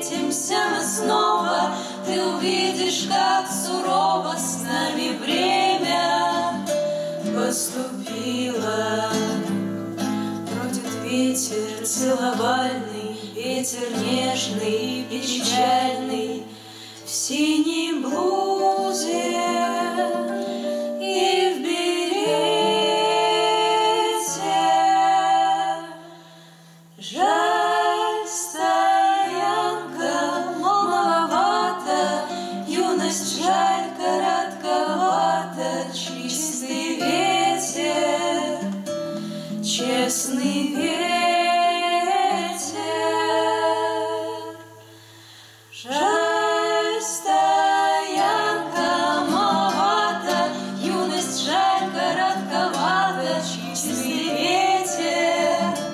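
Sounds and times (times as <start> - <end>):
acoustic guitar: 0.0 - 55.9
women singing in harmony: 0.0 - 55.9.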